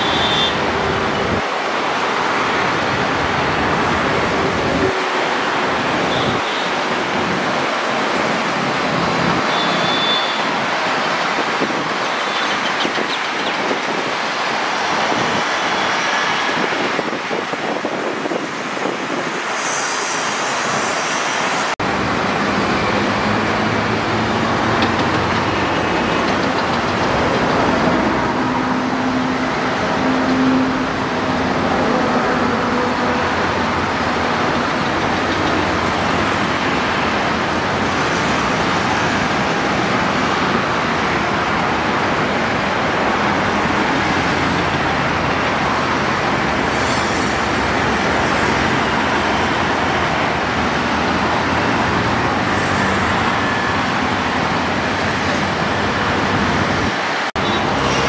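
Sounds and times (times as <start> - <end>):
airliner jet noise: 0.0 - 58.0
road traffic: 0.0 - 58.0.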